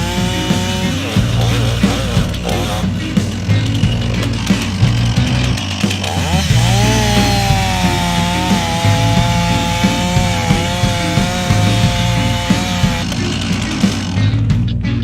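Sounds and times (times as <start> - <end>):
chainsaw cutting tree trunk: 0.0 - 14.4
background music with steady beat: 0.0 - 15.0.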